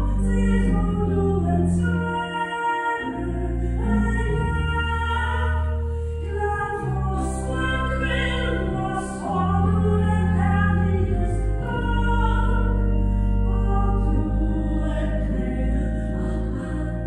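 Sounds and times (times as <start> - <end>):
pipe organ playing chords: 0.0 - 17.0.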